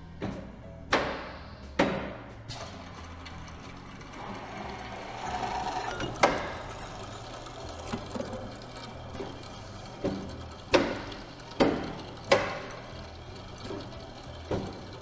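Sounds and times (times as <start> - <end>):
bandsaw mechanism whirring: 2.5 - 15.0.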